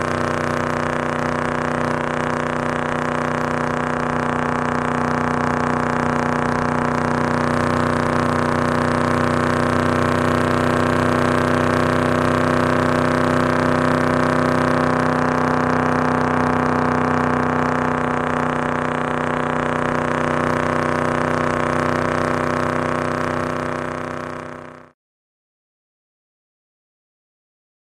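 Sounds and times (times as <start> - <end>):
hot rod engine idling: 0.0 - 24.8.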